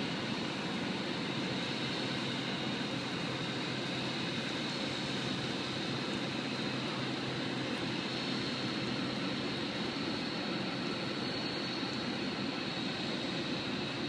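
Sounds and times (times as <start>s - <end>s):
propeller wash churning water: 0.0s - 14.0s.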